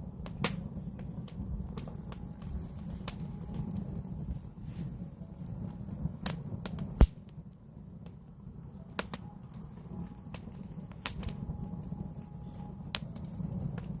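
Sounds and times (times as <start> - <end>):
low rush of fire: 0.0 - 14.0
wood crackling and popping: 0.0 - 14.0.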